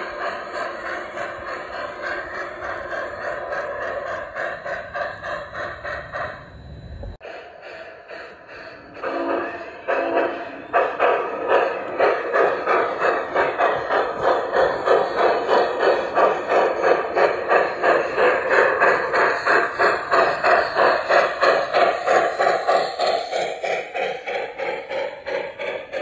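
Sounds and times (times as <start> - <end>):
model steam locomotive chuffing: 0.0 - 26.0.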